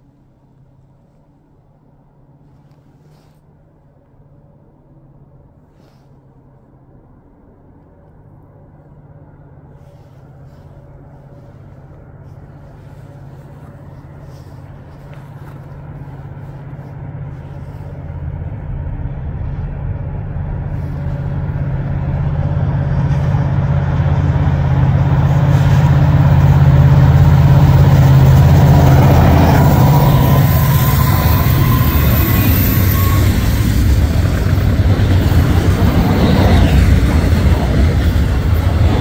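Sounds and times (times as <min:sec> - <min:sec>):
diesel locomotive engine drone: 0:00.0 - 0:39.0.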